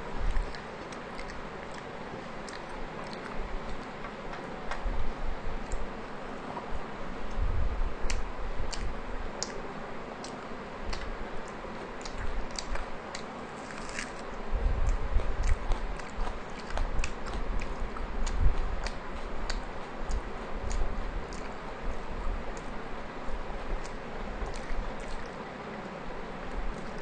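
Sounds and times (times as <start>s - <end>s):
wet chewing mouth clicks: 0.2s - 4.8s, 8.0s - 9.6s, 10.2s - 26.0s.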